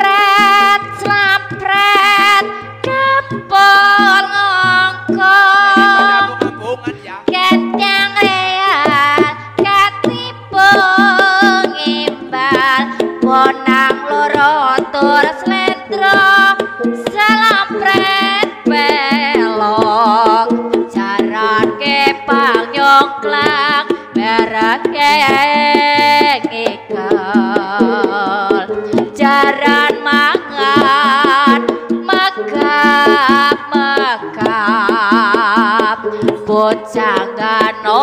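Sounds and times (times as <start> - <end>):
hand drums playing busy patterns: 0.0 - 38.0.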